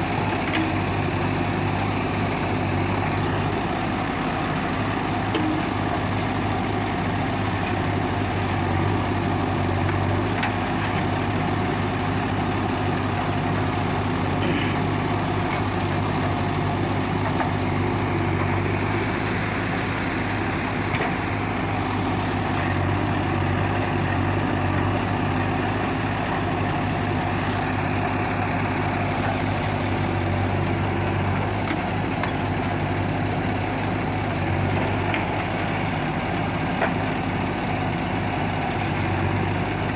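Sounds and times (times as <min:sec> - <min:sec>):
backhoe diesel engine running: 0:00.0 - 0:39.9
backhoe digging soil: 0:00.0 - 0:39.9.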